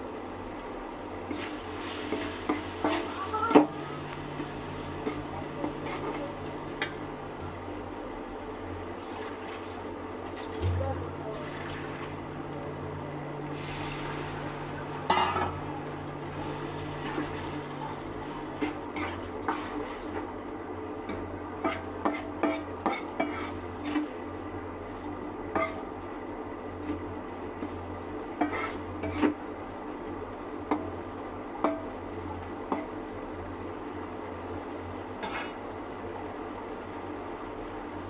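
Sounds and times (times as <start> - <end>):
steady low hum: 0.0 - 35.1.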